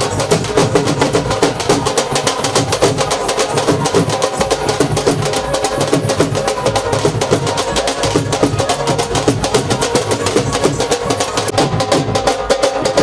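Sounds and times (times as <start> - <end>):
drums playing fast rhythm: 0.0 - 13.0.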